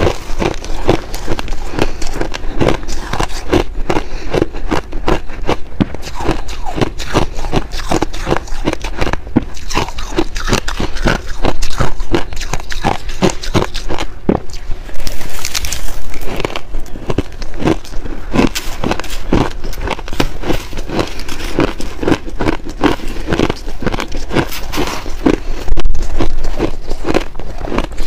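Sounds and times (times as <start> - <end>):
chewing shaved ice: 0.0 - 28.0.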